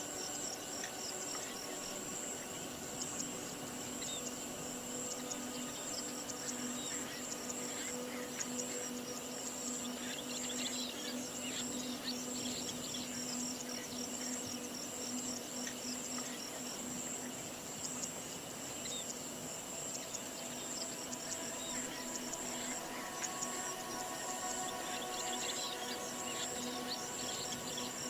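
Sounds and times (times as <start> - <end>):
high-pitched insect buzz: 0.0 - 28.0.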